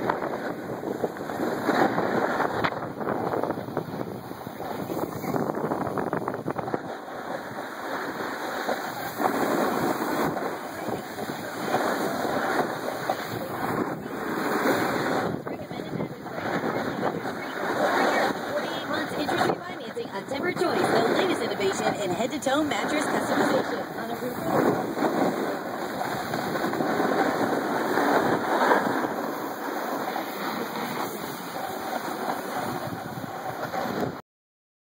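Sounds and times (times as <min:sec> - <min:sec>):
board sliding over snow: 0:00.0 - 0:15.6, 0:16.3 - 0:21.2, 0:22.8 - 0:34.2
wind buffeting microphone: 0:00.0 - 0:34.2.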